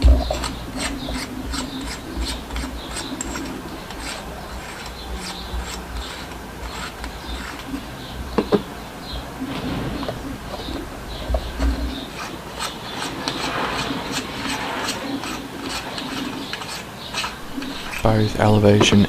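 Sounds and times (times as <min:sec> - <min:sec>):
turret caps scraping and clicking: 0:00.0 - 0:07.8, 0:10.6 - 0:19.0.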